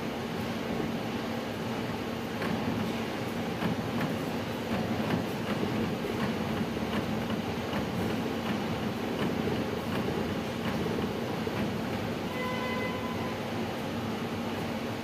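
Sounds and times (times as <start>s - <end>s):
punch press hum and clatter: 0.0s - 15.0s.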